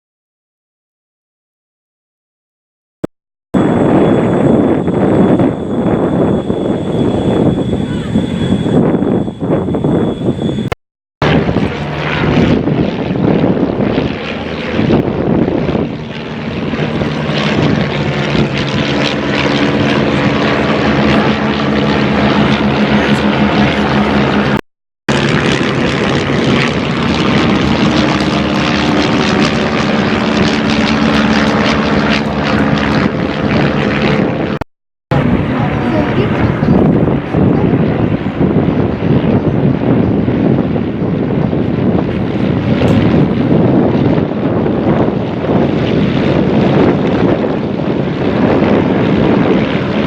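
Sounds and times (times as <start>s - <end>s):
propeller aircraft engine droning: 3.6s - 50.0s.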